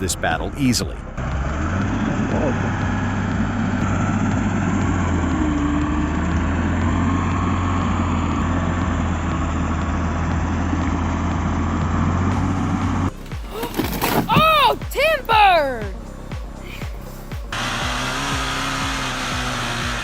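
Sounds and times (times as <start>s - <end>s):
heavy machinery engine drone: 0.0s - 13.5s, 16.1s - 20.0s.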